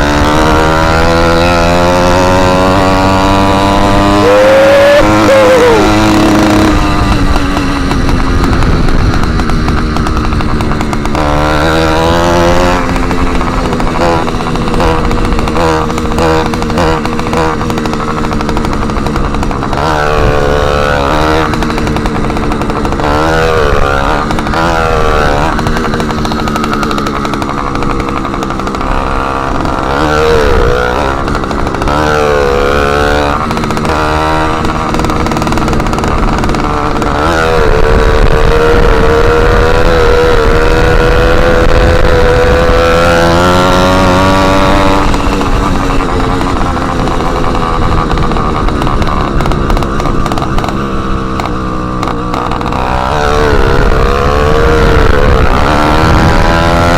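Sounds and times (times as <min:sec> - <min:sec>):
small motorbike engine revving: 0:00.0 - 0:56.9.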